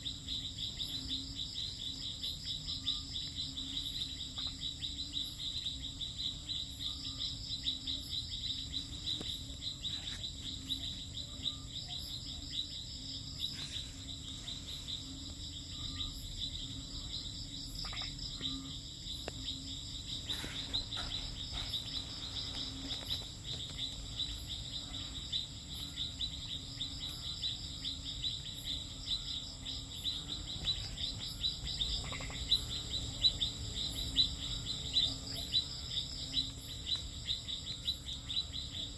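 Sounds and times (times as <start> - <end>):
rapid high insect trill: 0.0 - 38.9.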